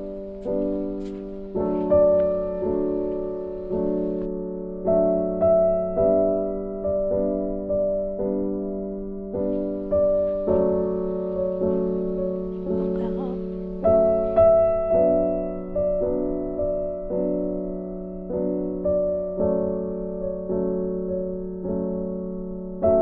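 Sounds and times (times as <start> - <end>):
gentle piano tune: 0.0 - 23.0.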